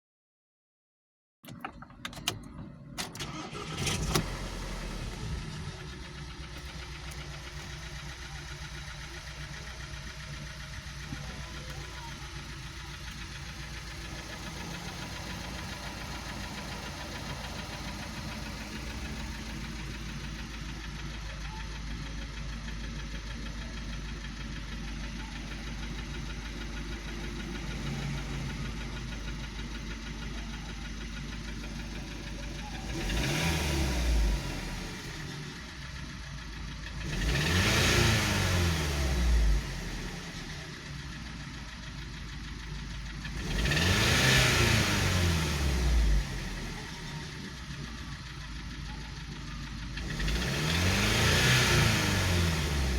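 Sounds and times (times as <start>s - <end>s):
car engine starting and running: 1.4s - 52.9s.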